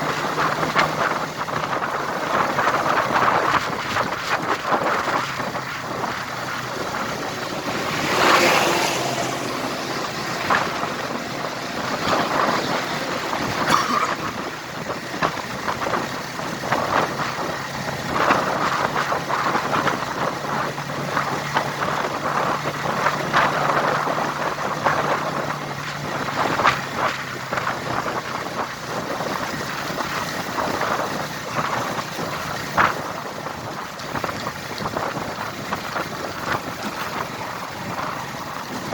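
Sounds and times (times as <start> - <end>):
low engine hum: 0.0 - 38.9
wind on microphone: 0.0 - 38.9.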